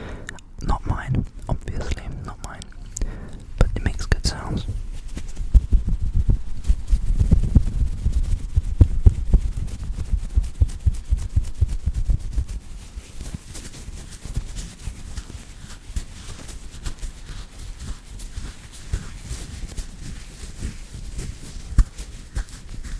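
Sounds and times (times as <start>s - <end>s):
hairband squeezed and rubbed: 1.7s - 22.9s.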